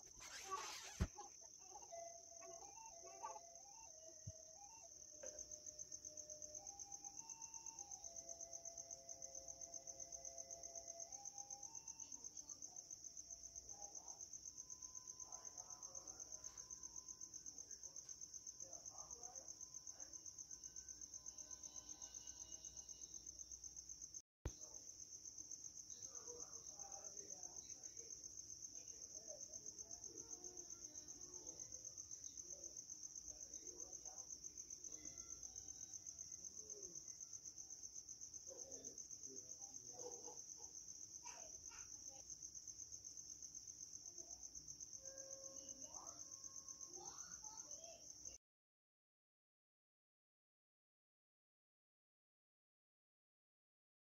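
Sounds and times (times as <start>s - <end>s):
insects chirping: 0.0s - 48.4s.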